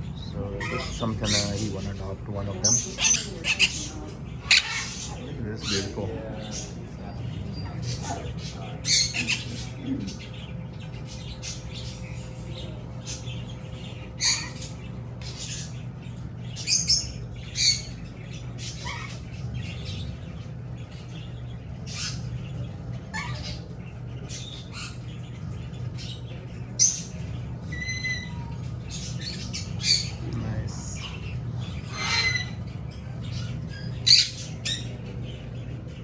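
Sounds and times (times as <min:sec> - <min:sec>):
parrots squawking and chirping: 0:00.0 - 0:36.0
steady low hum: 0:00.0 - 0:36.0.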